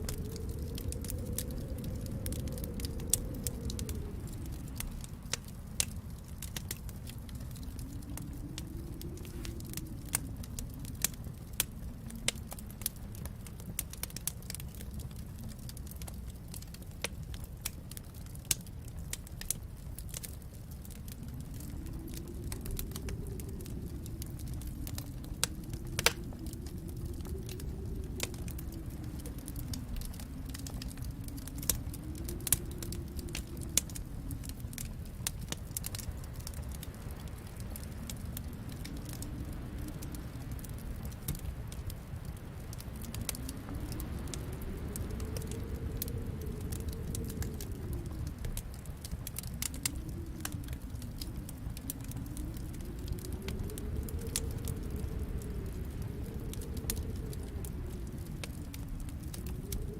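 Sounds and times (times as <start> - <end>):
storm wind rumbling: 0.0 - 59.9
wood fire crackling: 0.0 - 59.9.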